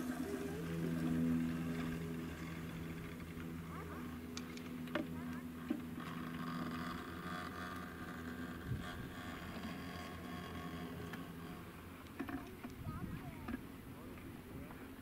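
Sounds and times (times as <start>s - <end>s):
ski lift mechanical hum: 0.0s - 15.0s.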